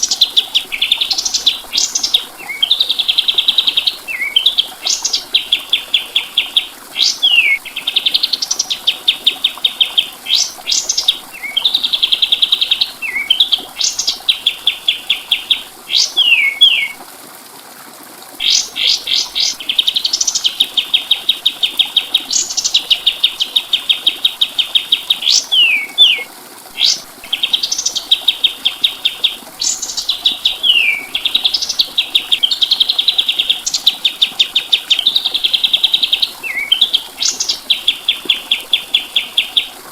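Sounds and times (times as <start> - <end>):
songbird trilling and whistling: 0.1 - 17.0, 18.4 - 39.7.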